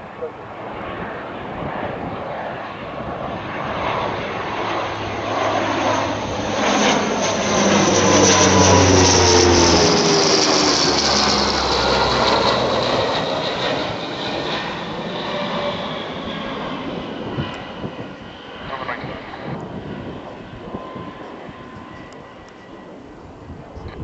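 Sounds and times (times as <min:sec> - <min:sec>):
turboprop aircraft passing overhead: 0:00.0 - 0:24.0.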